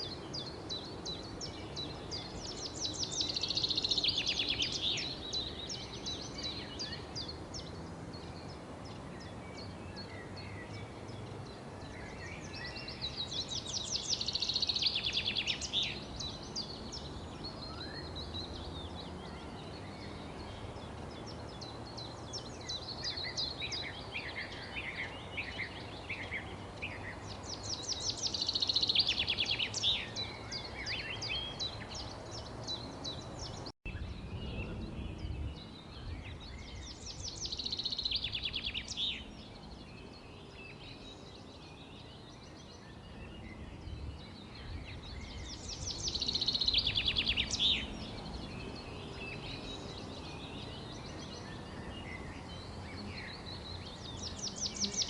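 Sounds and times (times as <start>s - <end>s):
low background noise: 0.0s - 55.0s
wild birds chirping and singing: 0.0s - 55.0s.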